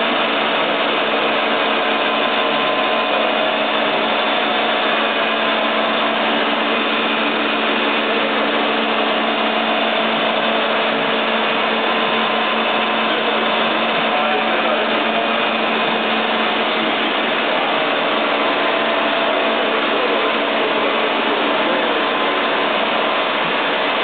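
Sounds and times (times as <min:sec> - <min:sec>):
lathe machine humming and whining: 0:00.0 - 0:24.0.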